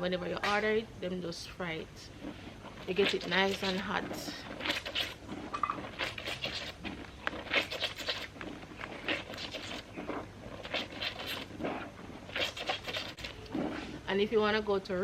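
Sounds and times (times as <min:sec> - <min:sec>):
wet clothes scrubbed by hand: 0:02.1 - 0:14.2.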